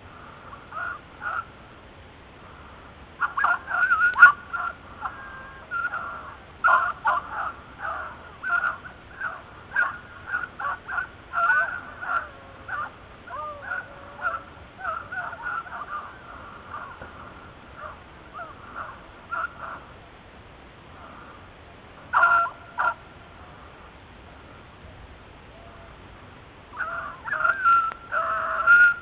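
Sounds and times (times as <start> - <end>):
beagles baying: 0.2 - 1.6, 2.4 - 20.0, 22.0 - 24.6, 26.7 - 29.0.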